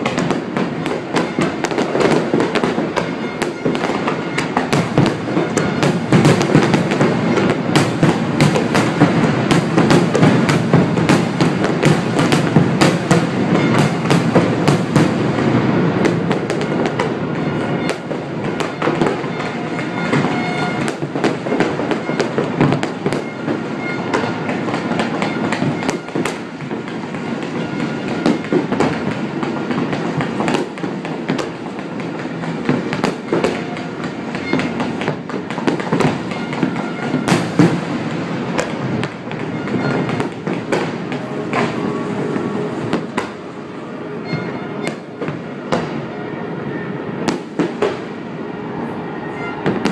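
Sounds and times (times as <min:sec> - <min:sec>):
continuous rumble: 0:00.0 - 0:49.9
fireworks bangs: 0:00.0 - 0:49.9.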